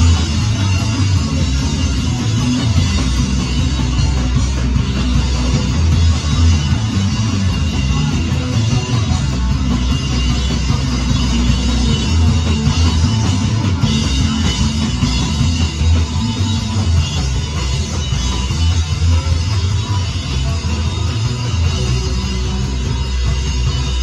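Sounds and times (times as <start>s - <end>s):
drum kit: 0.0s - 24.0s
electric guitar: 0.0s - 24.0s
live rock band playing: 0.0s - 24.0s.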